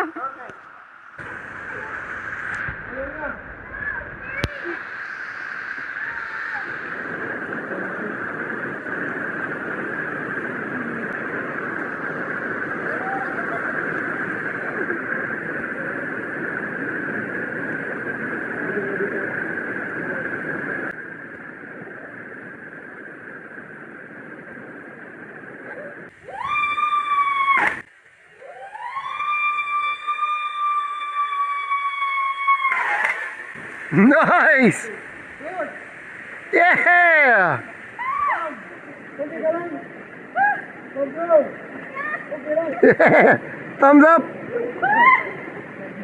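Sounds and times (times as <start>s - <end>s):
falling water rushing: 0.0s - 46.0s.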